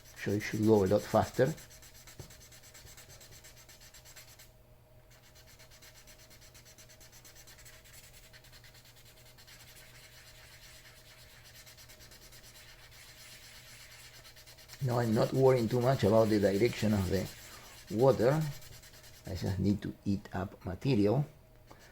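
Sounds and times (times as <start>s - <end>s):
sandpaper rubbing: 0.0s - 4.5s, 5.1s - 19.6s.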